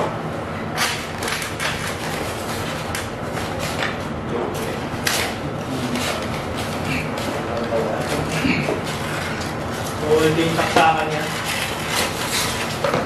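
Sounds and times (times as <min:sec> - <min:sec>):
packaging rustling and scraping: 0:00.7 - 0:13.0.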